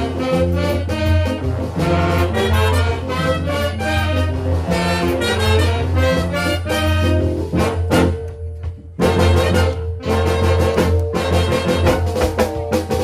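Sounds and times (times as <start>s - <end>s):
big band brass: 0.0s - 13.0s
steady bass line: 0.0s - 13.0s.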